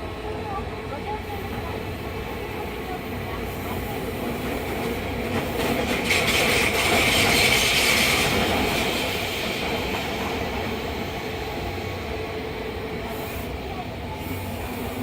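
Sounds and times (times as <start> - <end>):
train wheel and rail noise: 0.0 - 15.0.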